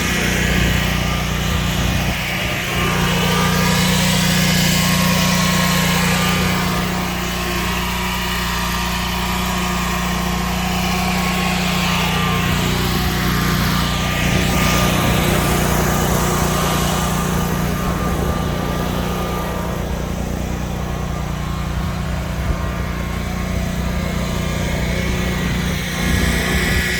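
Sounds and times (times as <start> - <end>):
car engine running: 0.0 - 26.9.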